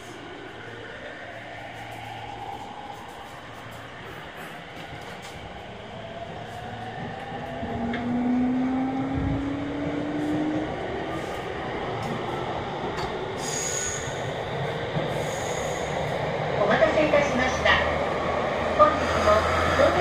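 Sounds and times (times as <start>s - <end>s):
train inverter whine: 0.0s - 20.0s
train wheels and motors rumbling: 0.0s - 20.0s.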